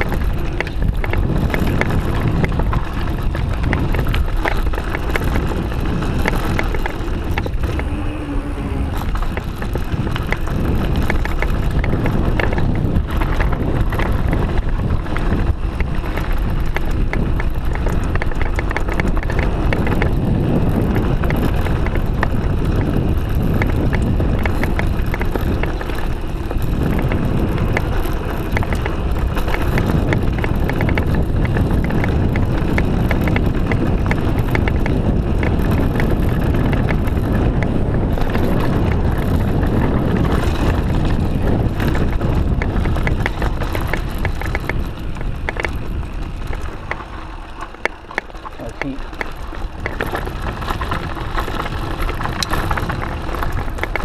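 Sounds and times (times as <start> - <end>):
bike rattling over bumps: 0.0 - 54.0
tyres roaring on gravel trail: 0.0 - 54.0
wind buffeting microphone: 0.0 - 54.0.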